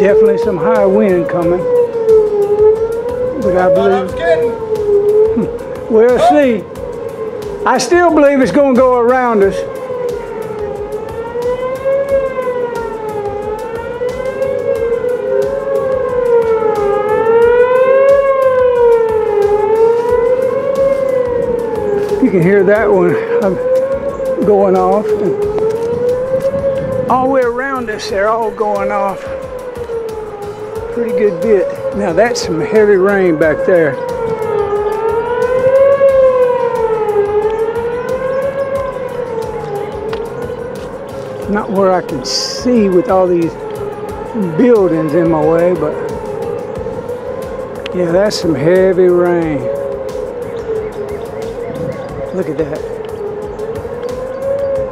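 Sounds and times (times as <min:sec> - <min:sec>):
tornado sirens wailing: 0:00.0 - 0:54.9.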